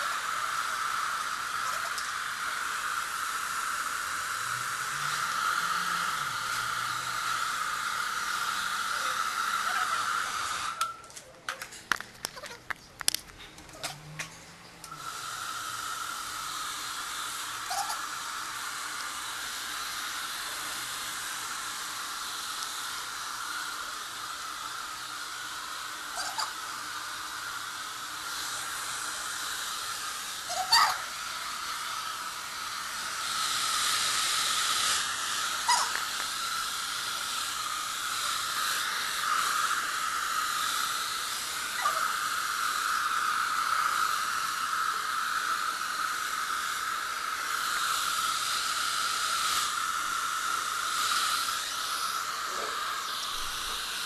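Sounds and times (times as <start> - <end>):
hair dryer blowing: 0.0 - 11.0, 13.9 - 54.0.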